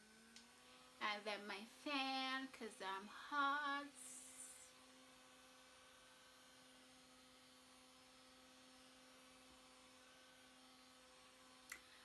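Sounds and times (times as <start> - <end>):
handheld fan humming: 0.0 - 12.0.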